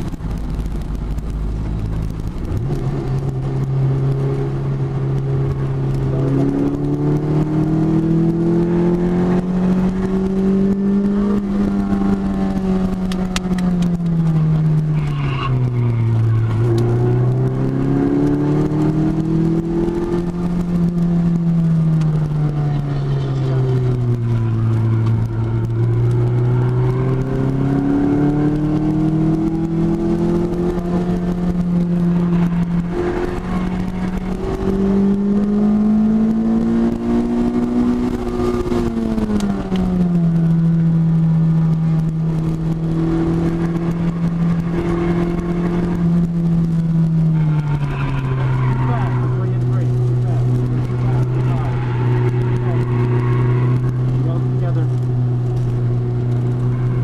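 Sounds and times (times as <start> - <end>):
car engine accelerating: 0.0 - 57.0
road and wind noise: 0.0 - 57.0.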